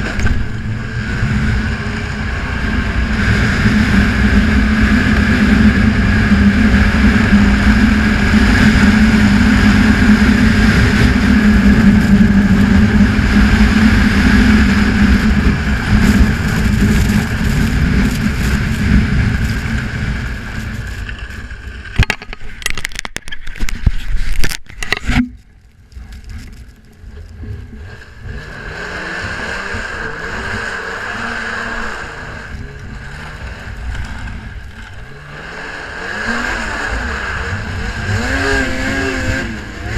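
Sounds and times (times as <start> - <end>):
snowmobile engine running: 0.0 - 22.8, 24.8 - 39.9.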